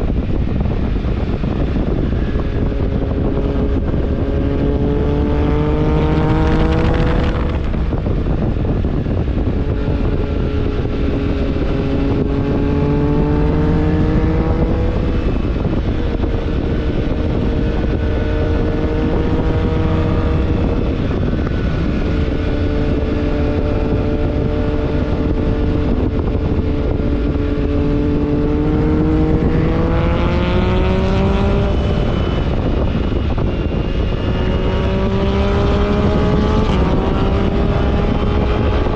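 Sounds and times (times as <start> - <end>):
motorcycle engine running: 0.0 - 38.9
wind rushing: 0.0 - 38.9.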